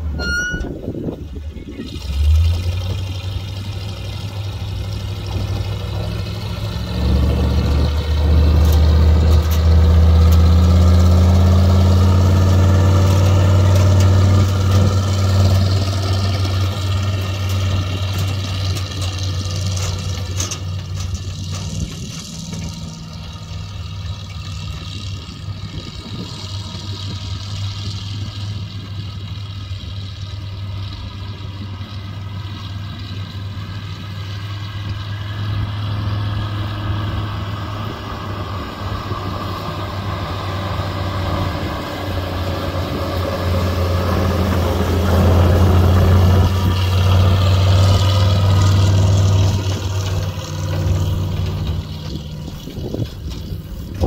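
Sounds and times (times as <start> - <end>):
truck engine humming: 0.0 - 54.0.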